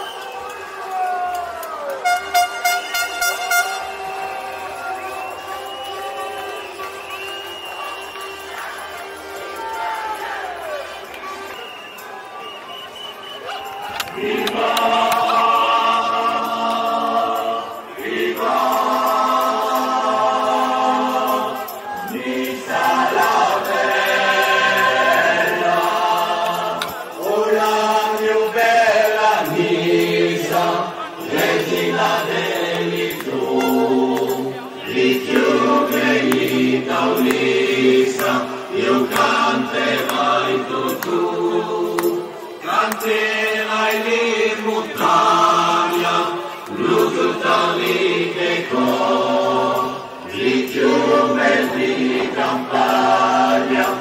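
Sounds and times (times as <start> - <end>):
crowd singing in unison: 2.6 - 54.0.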